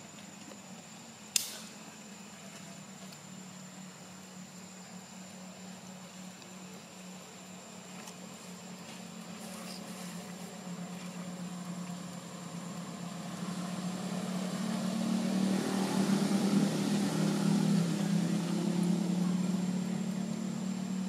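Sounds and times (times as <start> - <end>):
motor engine humming: 0.0 - 21.0.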